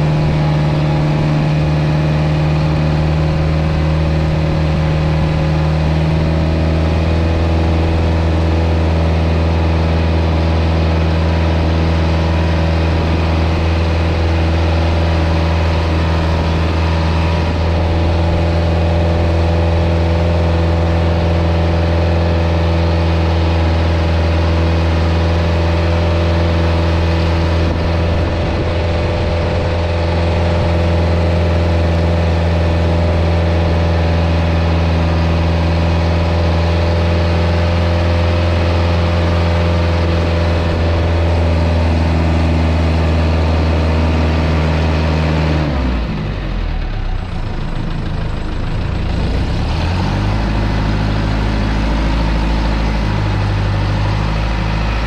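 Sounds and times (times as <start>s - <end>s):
diesel truck engine under load: 0.0s - 55.0s.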